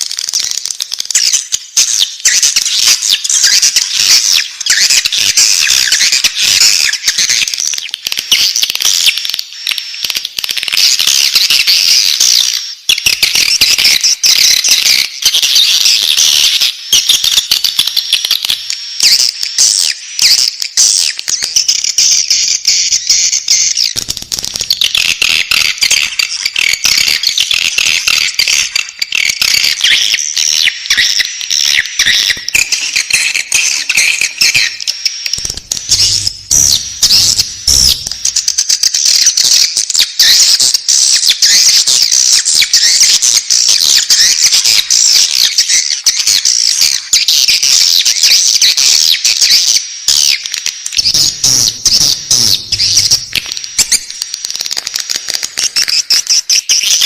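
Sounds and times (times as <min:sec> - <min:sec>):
bird chicks chirping: 0:00.0 - 0:57.0.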